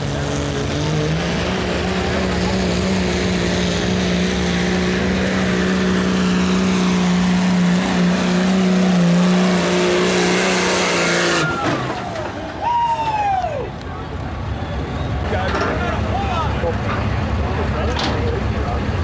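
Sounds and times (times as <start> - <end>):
diesel engine at full throttle: 0.0 - 19.0.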